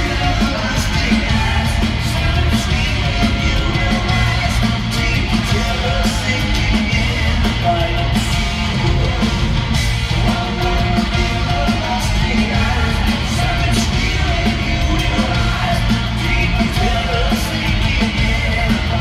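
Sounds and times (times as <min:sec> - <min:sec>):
bass guitar: 0:00.0 - 0:19.0
distorted electric guitars: 0:00.0 - 0:19.0
drums: 0:00.0 - 0:19.0.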